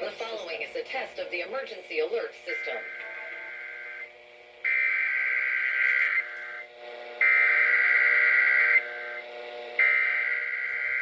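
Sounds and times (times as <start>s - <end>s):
buzzing data tone bursts from radio: 0.0s - 11.0s.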